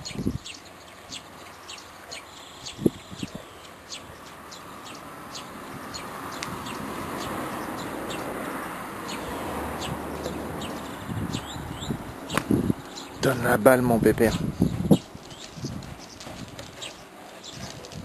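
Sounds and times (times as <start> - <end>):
small bird chirping: 0.0 - 8.4, 9.0 - 13.3, 14.3 - 18.0
rushing background noise: 0.0 - 18.0.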